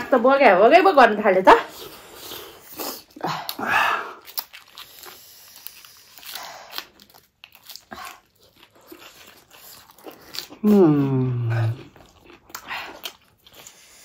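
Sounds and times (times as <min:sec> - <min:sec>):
crunchy chewing: 0:01.8 - 0:14.0.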